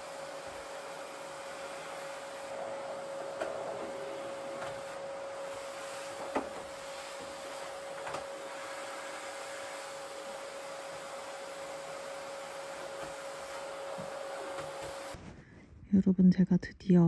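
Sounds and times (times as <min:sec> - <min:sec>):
vacuum cleaner running: 0:00.0 - 0:15.2.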